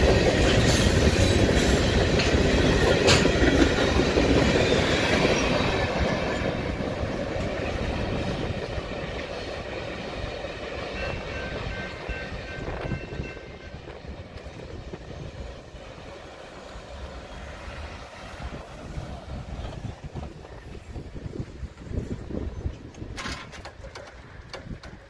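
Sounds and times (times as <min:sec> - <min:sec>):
train wheels clattering over rails: 0:00.0 - 0:25.0.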